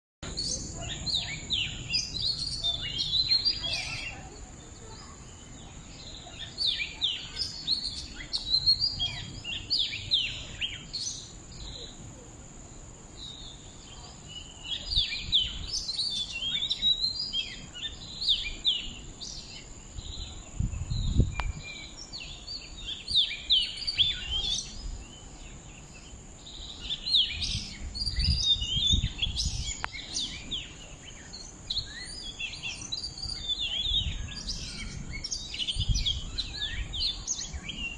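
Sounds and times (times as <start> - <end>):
birds chirping: 0.2 - 37.9.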